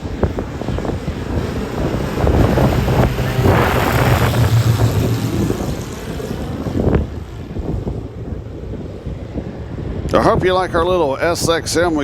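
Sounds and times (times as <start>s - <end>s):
propeller plane drone: 0.0s - 10.1s
wind buffeting microphone: 0.0s - 12.0s.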